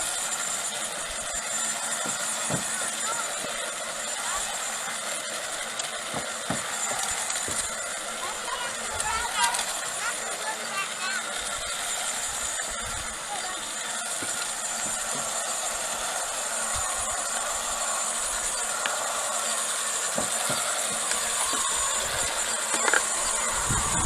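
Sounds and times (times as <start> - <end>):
cultivator churning soil: 0.0 - 24.0
faint high motor whine: 0.0 - 24.0.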